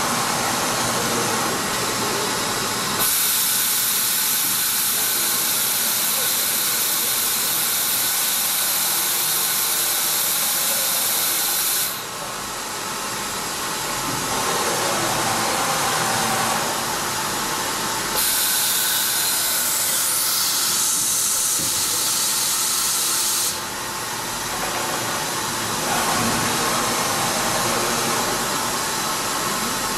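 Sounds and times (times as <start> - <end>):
machine running: 0.0 - 29.9.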